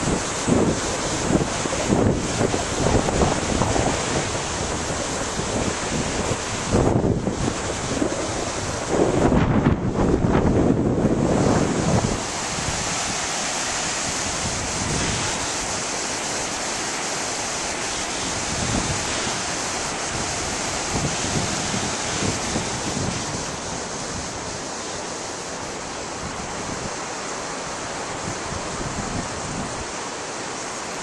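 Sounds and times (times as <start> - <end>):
river rapids rushing: 0.0 - 31.0
wind gusts on microphone: 0.0 - 31.0.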